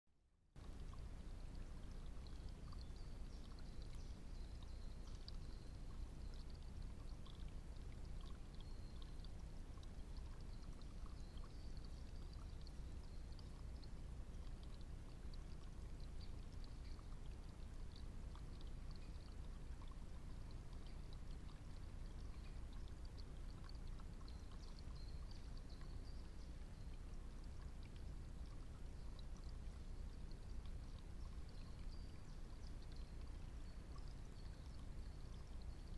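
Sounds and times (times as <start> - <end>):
low rumble and hiss: 0.5 - 35.9
faint high chirps: 0.6 - 35.9.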